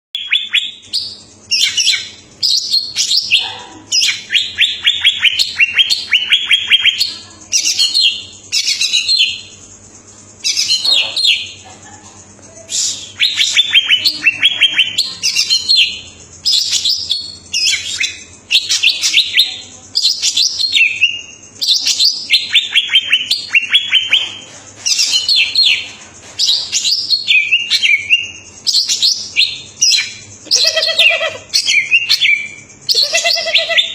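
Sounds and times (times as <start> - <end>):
bird singing trills and whistles: 0.2 - 11.6, 12.6 - 33.9.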